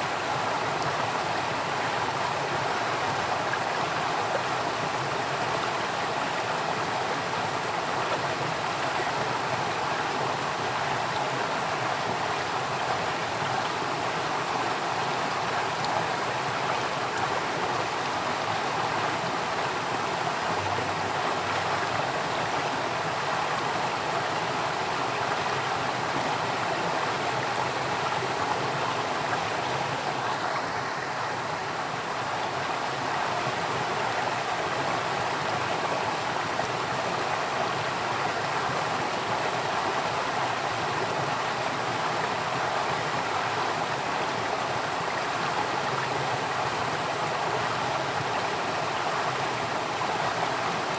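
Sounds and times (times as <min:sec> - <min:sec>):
flowing water rushing: 0:00.0 - 0:50.9.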